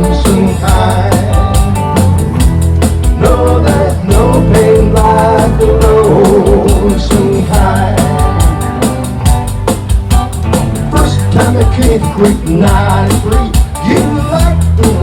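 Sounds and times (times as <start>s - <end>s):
country-rock band playing: 0.0s - 15.0s
drum kit cymbal beat: 0.0s - 15.0s.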